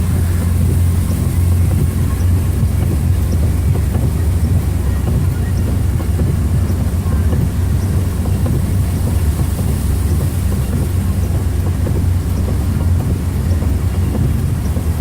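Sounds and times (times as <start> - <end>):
car driving through water: 0.0 - 15.0.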